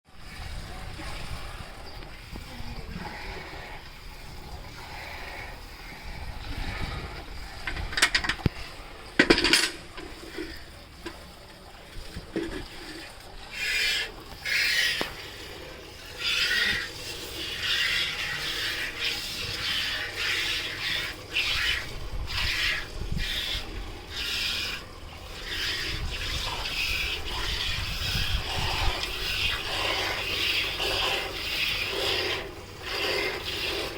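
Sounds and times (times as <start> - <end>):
milk jets hissing into pail: 0.2 - 9.2, 9.9 - 33.9.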